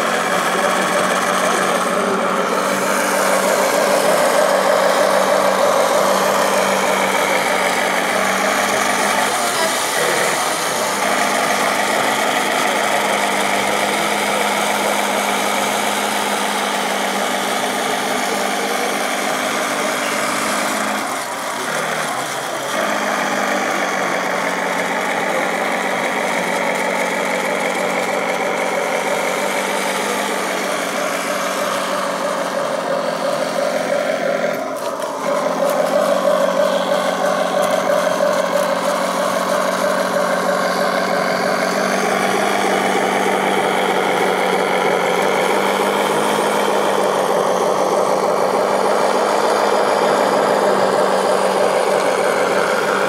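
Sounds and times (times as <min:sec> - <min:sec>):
toy tank engine drone: 0:00.0 - 0:53.0.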